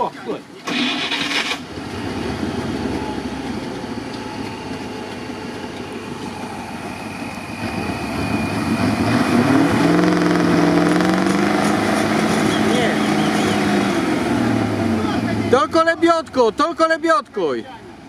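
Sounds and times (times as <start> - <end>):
off-road vehicle engine revving: 0.7 - 17.1.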